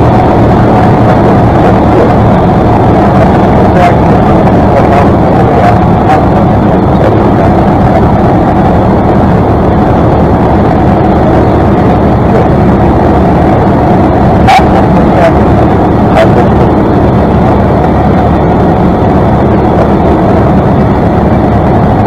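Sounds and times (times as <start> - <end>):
light airplane engine drone: 0.0 - 22.0.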